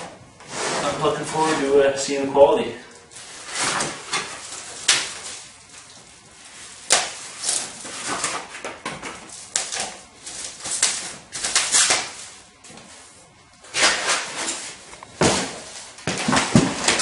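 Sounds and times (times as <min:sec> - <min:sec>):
rustling and scraping of wrapping: 0:03.1 - 0:17.0.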